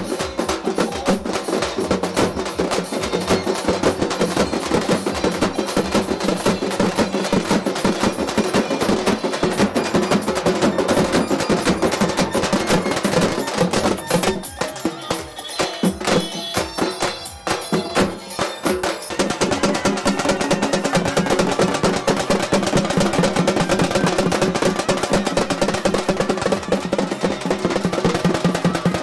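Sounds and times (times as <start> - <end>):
drums playing fast rhythm: 0.0 - 29.0.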